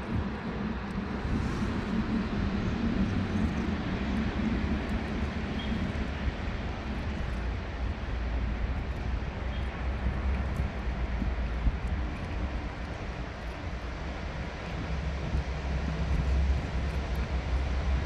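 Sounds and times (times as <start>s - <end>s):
constant low hum: 0.0s - 18.0s
low background rumble: 0.0s - 18.0s.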